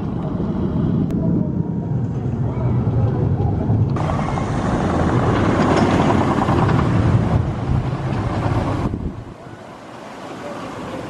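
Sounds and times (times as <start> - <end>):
roller coaster train rumbling: 0.0 - 11.0.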